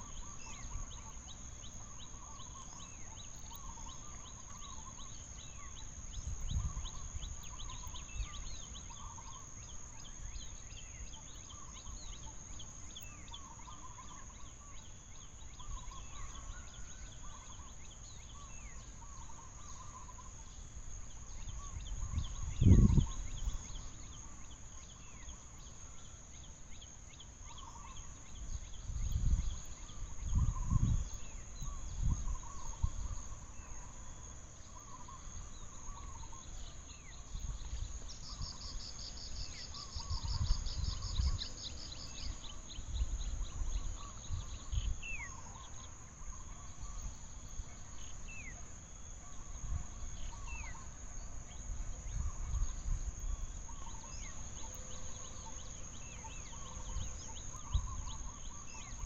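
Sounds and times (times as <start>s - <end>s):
bird calls: 0.0s - 59.0s
high insect drone: 0.0s - 59.0s.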